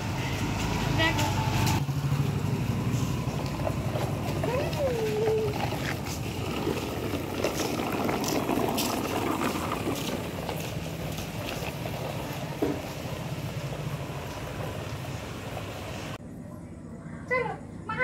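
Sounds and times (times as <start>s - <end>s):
toy wheels rumbling on pavement: 0.0s - 16.2s.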